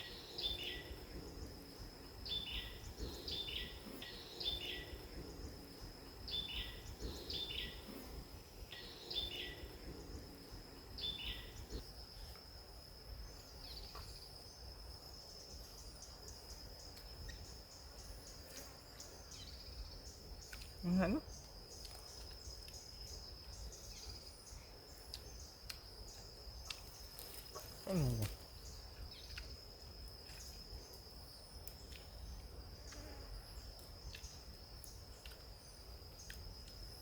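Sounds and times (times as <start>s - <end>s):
high insect drone: 0.0s - 37.0s.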